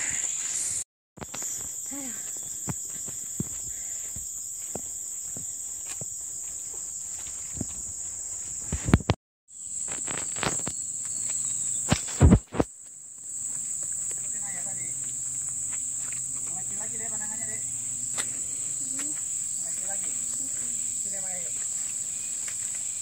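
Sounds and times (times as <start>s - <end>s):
footsteps on a muddy trail: 0.0s - 9.2s, 9.9s - 23.0s
high-pitched insect drone: 0.0s - 23.0s.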